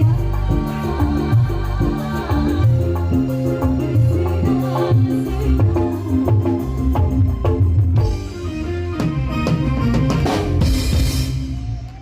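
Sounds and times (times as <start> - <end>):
band music over sound system: 0.0 - 12.0
drum kit steady beat: 0.0 - 12.0.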